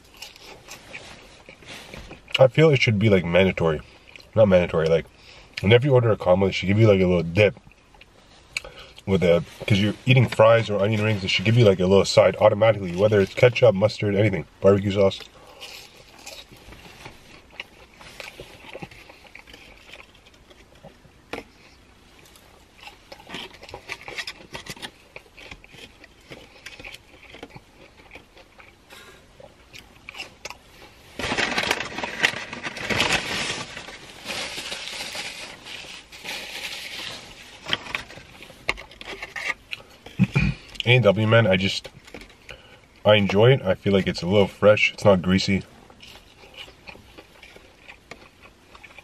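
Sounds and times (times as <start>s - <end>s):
chewing fries: 0.0s - 49.0s.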